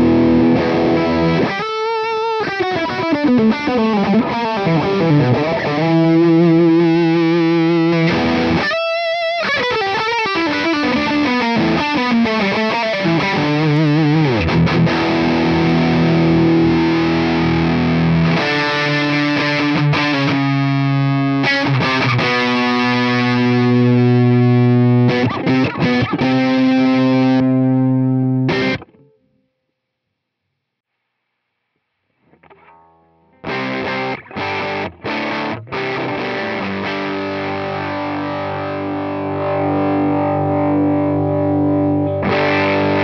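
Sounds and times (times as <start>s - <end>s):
distorted electric guitar: 0.0s - 29.2s, 32.1s - 43.0s.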